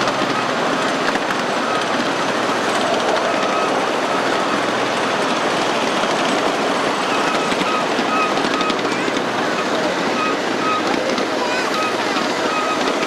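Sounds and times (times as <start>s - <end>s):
high wheel squeaks: 0.0s - 13.0s
small train wheels clattering on rails: 0.0s - 13.0s.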